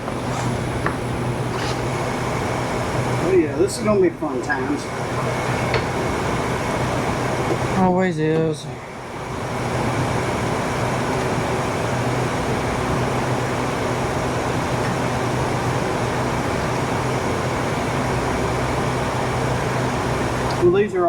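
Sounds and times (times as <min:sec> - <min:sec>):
motor-driven machine whirring: 0:00.0 - 0:20.8.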